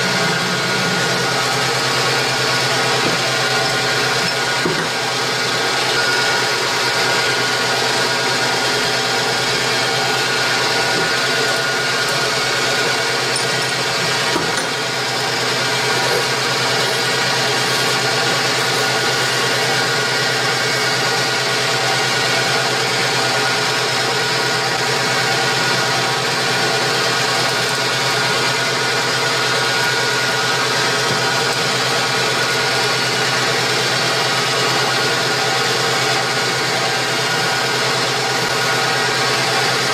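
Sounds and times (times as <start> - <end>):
drill boring into metal: 0.0 - 39.9
metal lathe humming: 0.0 - 39.9.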